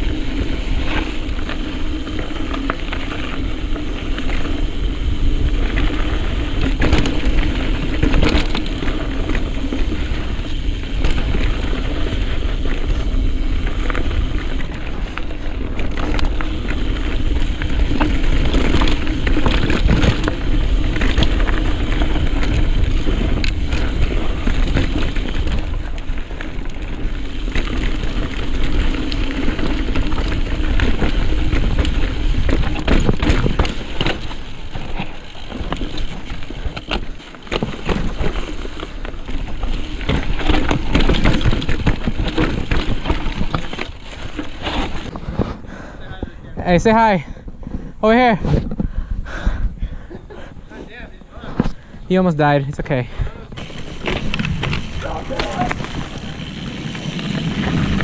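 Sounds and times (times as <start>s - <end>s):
bike rattling over bumps: 0.0s - 58.0s
bike tyres grinding over stones: 0.0s - 58.0s.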